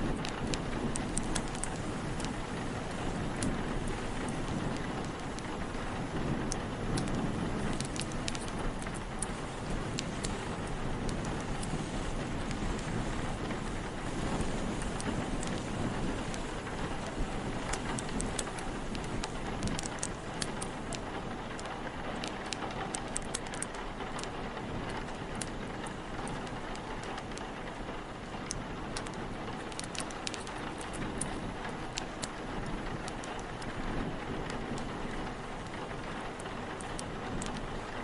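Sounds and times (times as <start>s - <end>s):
steady rain: 0.0s - 38.0s
wood fire crackling: 0.0s - 38.0s.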